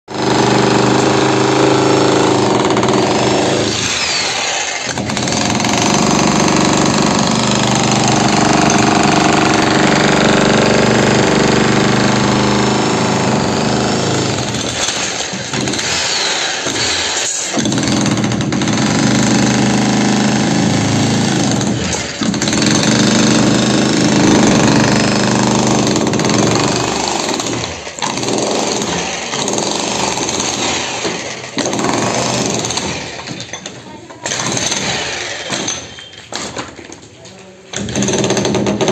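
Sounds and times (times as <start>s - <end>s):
demolition hammer pounding concrete: 0.1s - 37.0s, 37.7s - 38.9s.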